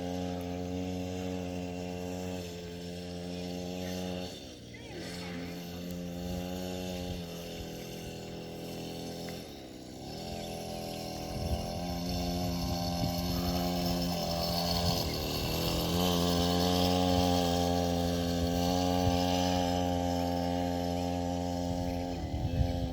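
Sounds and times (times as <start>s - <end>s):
motocross bike engine running: 0.0s - 22.9s.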